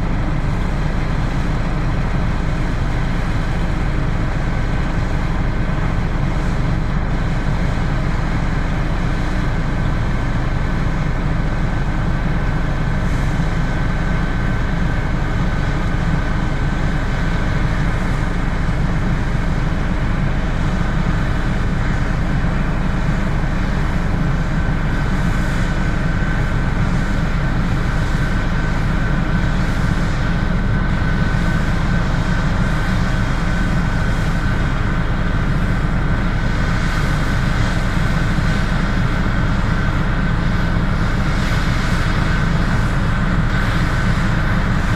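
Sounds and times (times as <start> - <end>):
combine harvester drone: 0.0 - 44.9
thin steady whine: 0.0 - 44.9.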